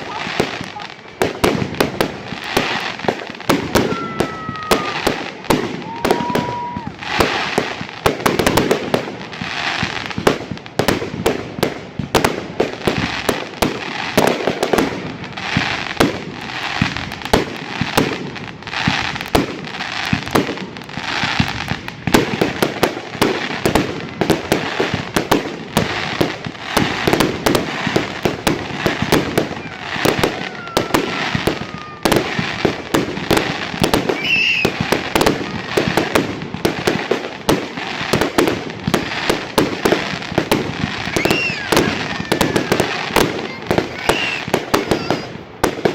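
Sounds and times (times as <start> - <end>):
fireworks banging and crackling: 0.0 - 45.9.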